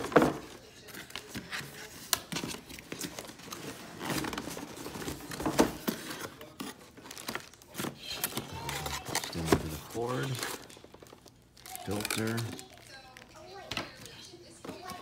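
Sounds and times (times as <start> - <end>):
packaging rustling and crinkling: 0.0 - 15.0.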